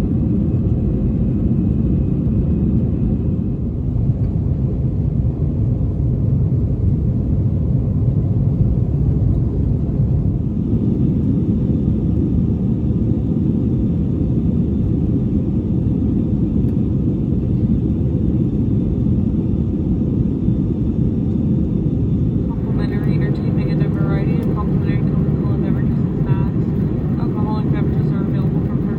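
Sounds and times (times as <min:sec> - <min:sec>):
airliner cabin rumble: 0:00.0 - 0:28.9.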